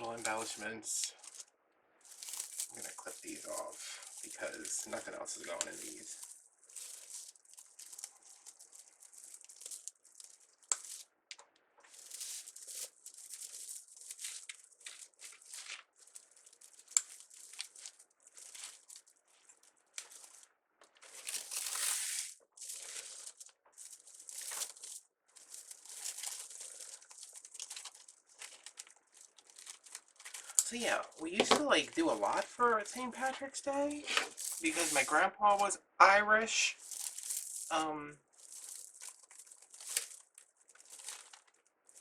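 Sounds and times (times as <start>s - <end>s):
plastic mesh crinkling: 0.0s - 35.7s, 36.7s - 42.0s.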